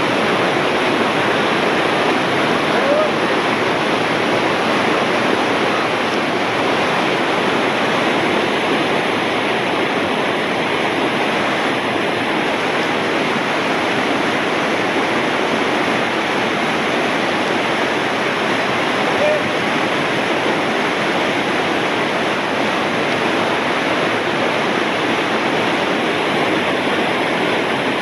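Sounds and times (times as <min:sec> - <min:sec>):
whitewater rapids rushing: 0:00.0 - 0:28.0.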